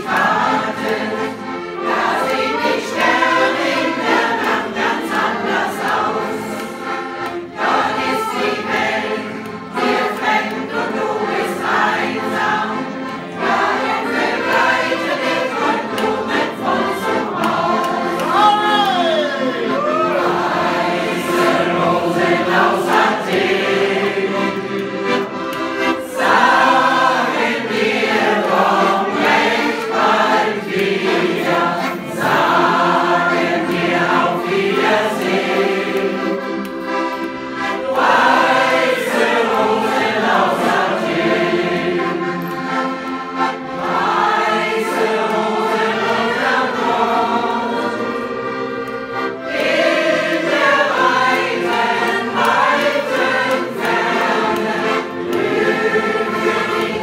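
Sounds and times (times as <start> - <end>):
accordion: 0.0 - 57.0
women's choir singing: 0.0 - 57.0.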